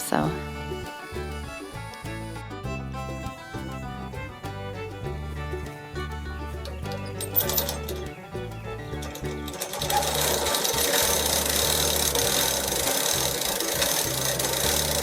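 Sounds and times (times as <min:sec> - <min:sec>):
background music with bass line: 0:00.0 - 0:15.0
small petrol engine running: 0:00.0 - 0:15.0.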